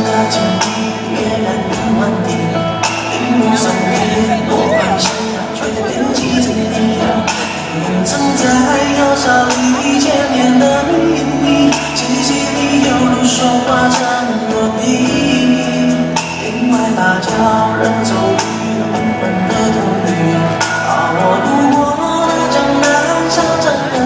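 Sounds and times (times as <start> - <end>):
pop song singing over a beat: 0.0 - 24.0.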